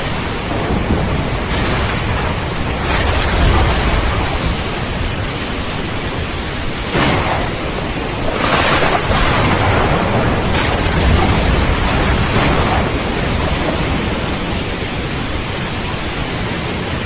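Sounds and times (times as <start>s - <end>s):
heavy rain hiss: 0.0s - 17.0s
thunder rumble: 0.0s - 17.0s.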